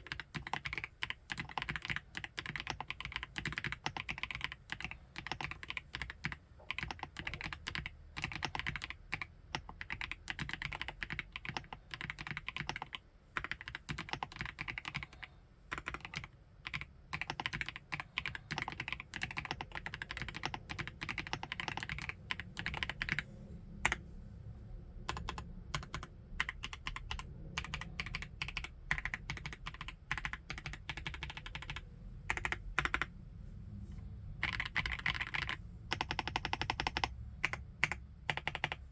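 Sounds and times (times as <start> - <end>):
fast typing on mechanical keyboard: 0.0 - 23.2, 25.1 - 33.1, 34.4 - 38.9.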